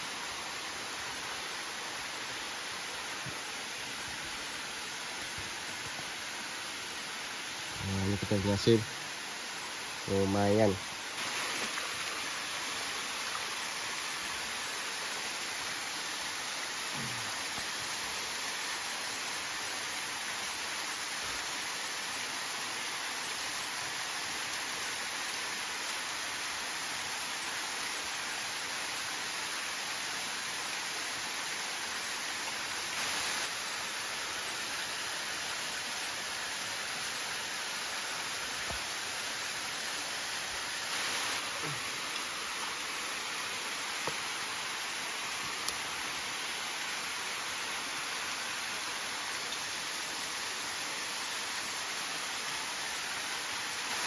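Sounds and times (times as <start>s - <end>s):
small waterfall rushing: 0.0s - 54.0s
stream running into rock pool: 0.0s - 54.0s.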